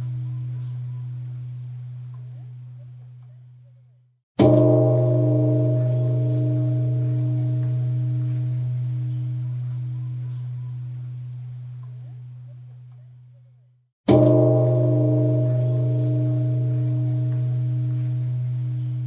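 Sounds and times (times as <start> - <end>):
large temple bell ringing: 0.0 - 3.0, 4.4 - 12.4, 14.1 - 19.0.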